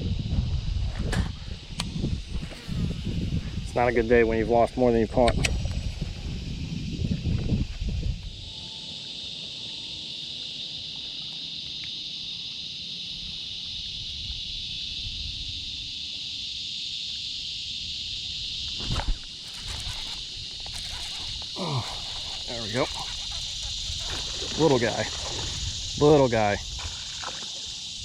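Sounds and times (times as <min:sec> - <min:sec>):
insect chorus: 0:00.0 - 0:28.0.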